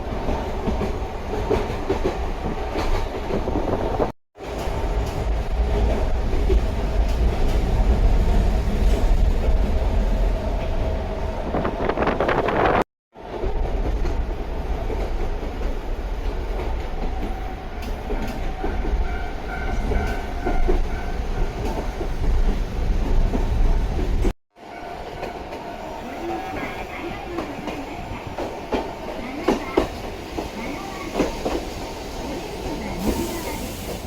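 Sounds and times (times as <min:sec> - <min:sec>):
train rumble and wheel noise: 0:00.0 - 0:34.0.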